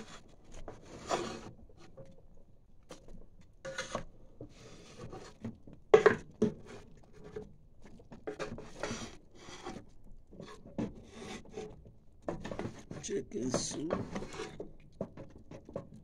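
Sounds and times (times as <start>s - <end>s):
pan scrapes and knocks: 0.0s - 2.0s, 3.7s - 7.5s, 8.2s - 16.0s.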